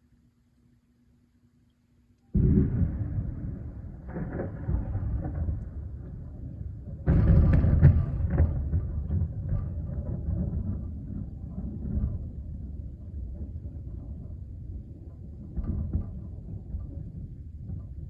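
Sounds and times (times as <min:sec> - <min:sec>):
thunder crack: 0:02.4 - 0:18.0
thunder rumbling: 0:02.4 - 0:18.0.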